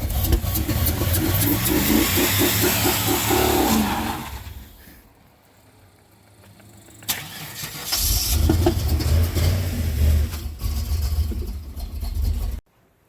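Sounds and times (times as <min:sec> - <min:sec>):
car engine cranking: 0:00.0 - 0:05.0, 0:06.2 - 0:12.6
misfiring engine rumbling: 0:00.0 - 0:12.7.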